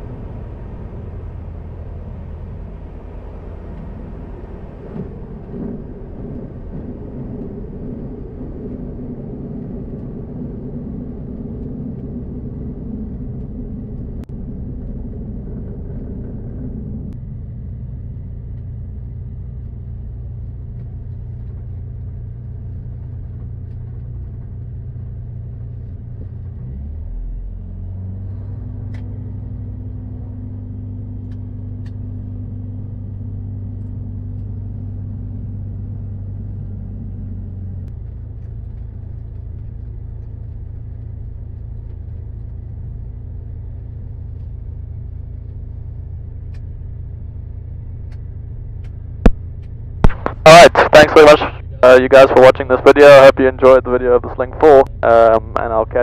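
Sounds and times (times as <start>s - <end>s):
aircraft engine and propeller: 0.0s - 26.4s, 28.2s - 56.0s.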